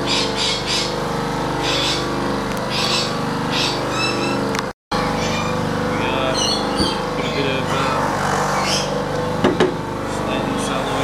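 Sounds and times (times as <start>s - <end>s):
bench buffer motor humming: 0.0s - 11.0s.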